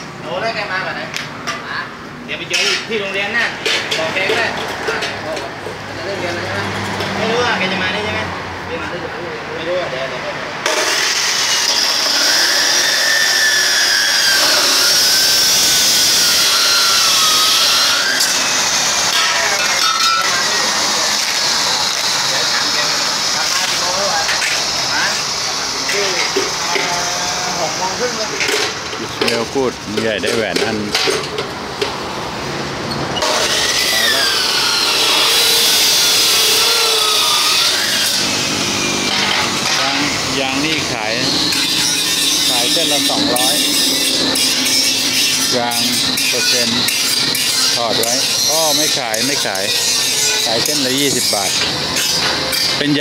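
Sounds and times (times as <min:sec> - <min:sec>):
chop saw cutting metal: 0:02.5 - 0:07.5, 0:10.6 - 0:31.9, 0:33.2 - 0:53.0.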